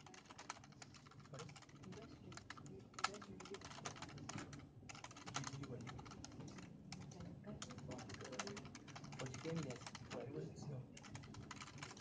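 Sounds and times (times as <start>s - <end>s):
fast typing on keyboard: 0.0s - 10.4s, 11.0s - 12.0s.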